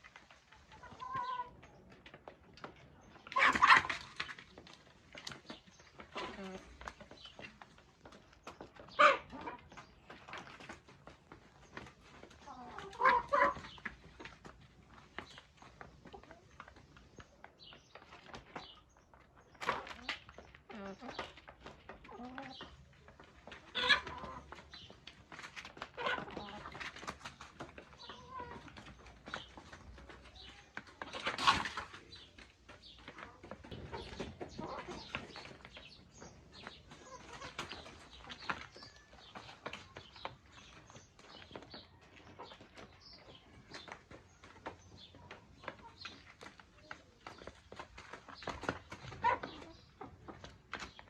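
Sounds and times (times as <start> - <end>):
chickens clucking: 0.0 - 51.0.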